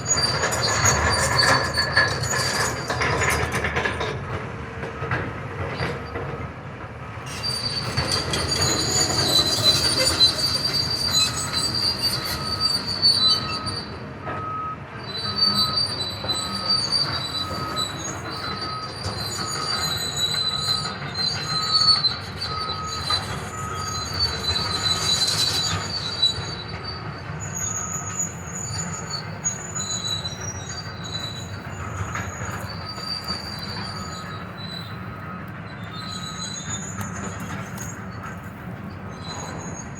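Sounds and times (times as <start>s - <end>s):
metal squealing and screeching: 0.0s - 3.6s, 7.3s - 14.0s, 15.0s - 38.4s, 39.0s - 39.9s.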